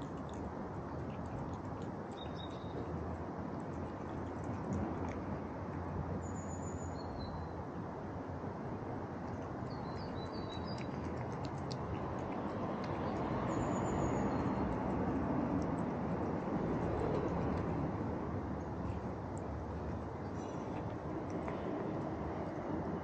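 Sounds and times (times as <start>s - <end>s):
low rumble and hiss outdoors: 0.0s - 23.0s.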